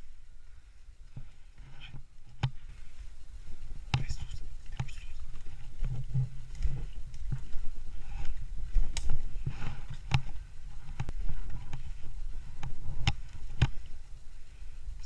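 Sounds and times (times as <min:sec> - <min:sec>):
gear handling rumble: 0:00.0 - 0:15.0.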